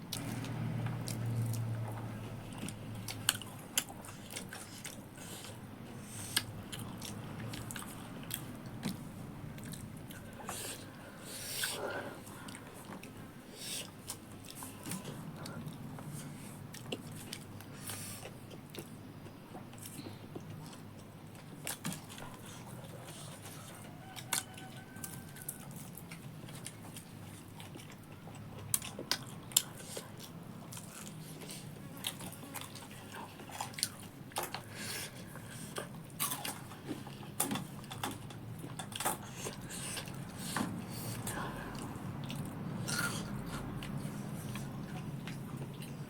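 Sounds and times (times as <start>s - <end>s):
person chewing crunchy food: 0.0s - 46.0s.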